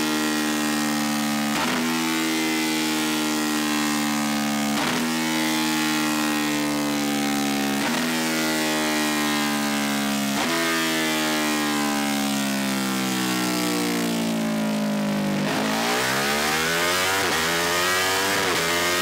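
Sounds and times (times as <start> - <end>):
motorcycle engine running under load: 0.1 - 19.0.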